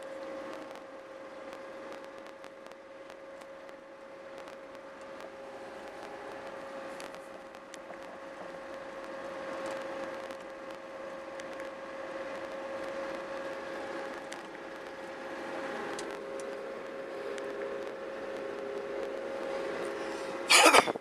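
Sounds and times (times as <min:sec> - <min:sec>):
diesel engine drone with whine: 0:00.0 - 0:21.0
small ticks and rattles: 0:01.4 - 0:19.6.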